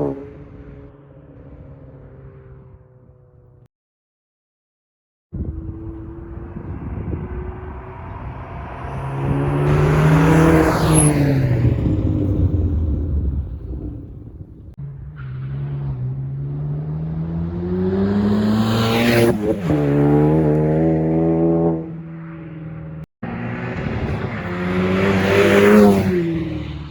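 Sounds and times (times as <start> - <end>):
car engine accelerating: 5.4 - 26.9.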